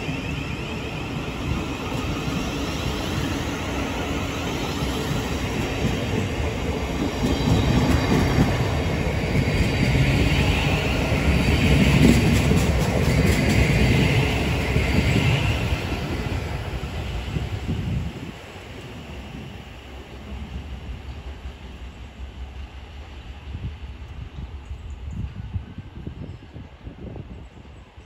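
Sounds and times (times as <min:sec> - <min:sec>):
electric train rumble: 0:00.0 - 0:28.0.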